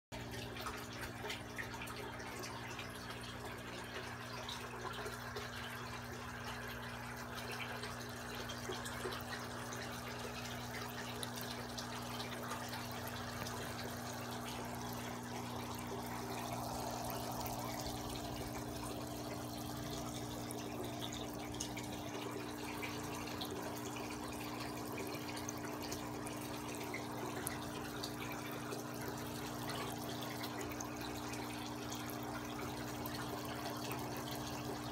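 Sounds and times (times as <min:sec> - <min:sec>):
low steady hum: 0:00.2 - 0:34.9
water trickling and bubbling: 0:00.2 - 0:34.9.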